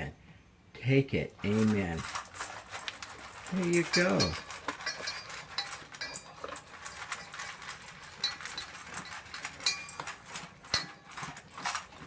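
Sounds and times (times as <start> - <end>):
dogs eating from bowls: 1.2 - 12.0.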